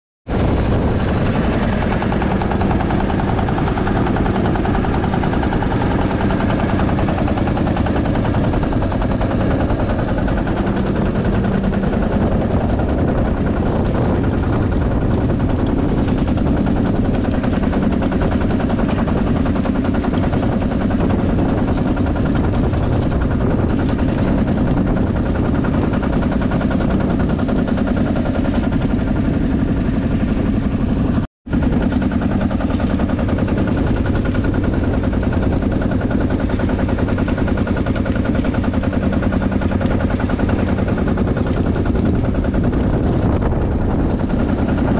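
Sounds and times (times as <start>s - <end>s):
tractor engine popping: 0.3s - 44.9s.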